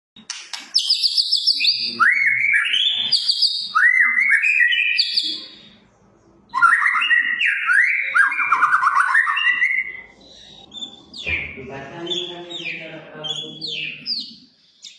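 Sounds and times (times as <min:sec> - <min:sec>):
bird singing whistled notes and trills: 0:00.7 - 0:05.8, 0:06.5 - 0:14.9.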